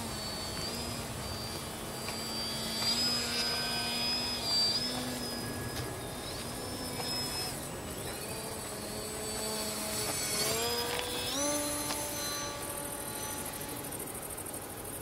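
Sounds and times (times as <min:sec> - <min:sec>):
model plane motor buzzing: 0:00.0 - 0:15.0.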